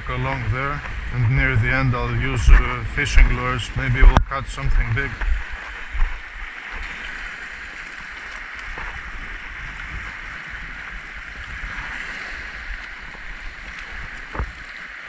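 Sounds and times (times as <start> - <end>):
waves washing over rocks: 0.0 - 15.0.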